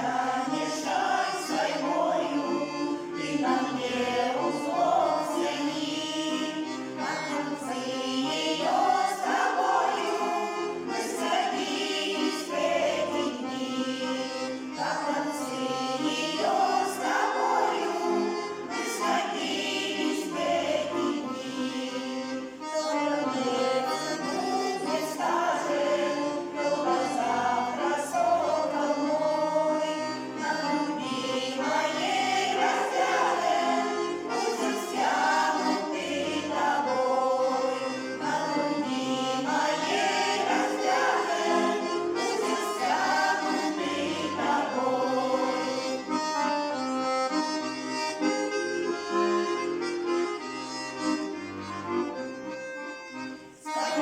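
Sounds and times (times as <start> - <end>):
group of voices singing: 0.0 - 46.6
accordion playing: 0.0 - 54.0.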